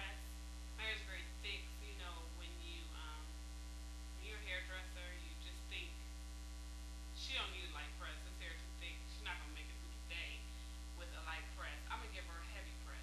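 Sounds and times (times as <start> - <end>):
woman talking: 0.0 - 3.4, 4.2 - 6.1, 7.2 - 13.0
faint steady tones: 0.0 - 13.0
low mains hum: 0.0 - 13.0.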